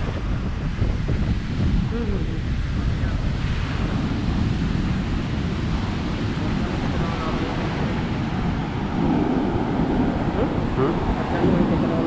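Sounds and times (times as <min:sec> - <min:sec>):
surf breaking on sand: 0:00.0 - 0:12.0
wind buffeting microphone: 0:00.0 - 0:12.0.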